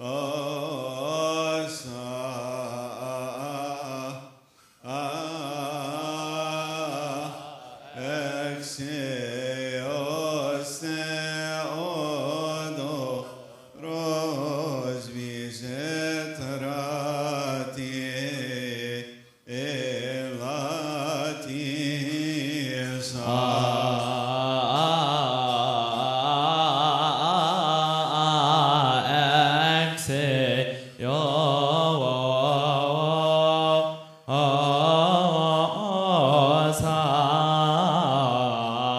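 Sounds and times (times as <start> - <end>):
men chanting a hymn: 0.0 - 38.9.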